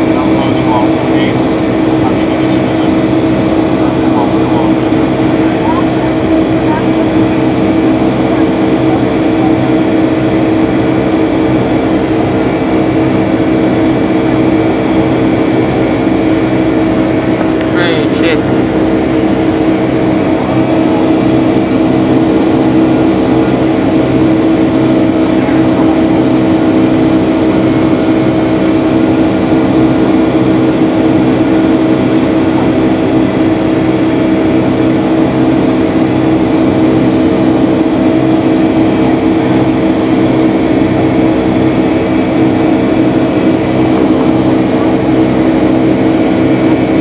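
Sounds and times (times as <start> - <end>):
jet engines droning in cabin: 0.0 - 47.0.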